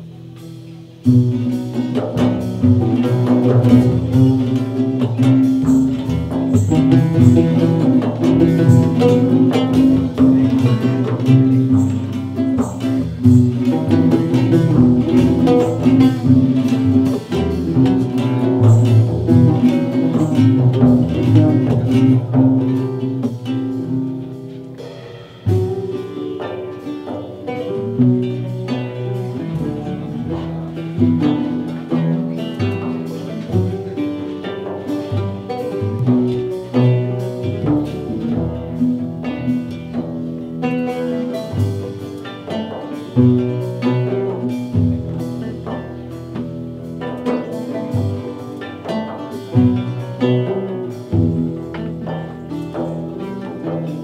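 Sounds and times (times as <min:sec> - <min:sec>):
acoustic guitar plucking: 0:00.0 - 0:54.0
double bass: 0:00.0 - 0:54.0
hand percussion: 0:00.0 - 0:54.0
oud plucking: 0:00.0 - 0:54.0.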